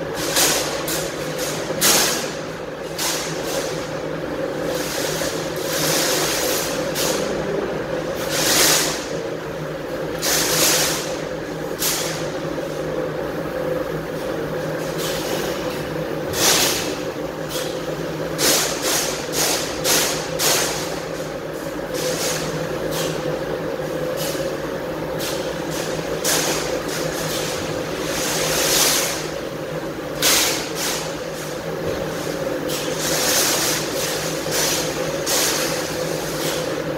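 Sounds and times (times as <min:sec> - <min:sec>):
laser cutting machine humming: 0:00.0 - 0:36.9.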